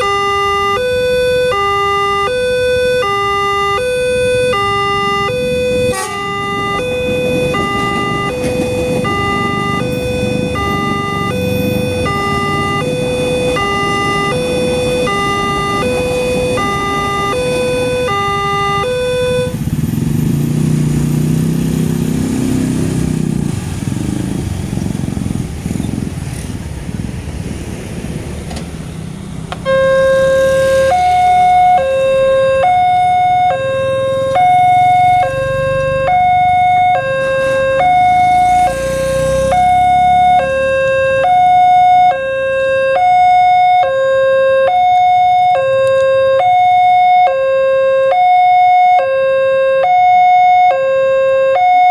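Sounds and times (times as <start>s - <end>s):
two-tone level crossing siren: 0.0s - 20.4s, 29.5s - 51.9s.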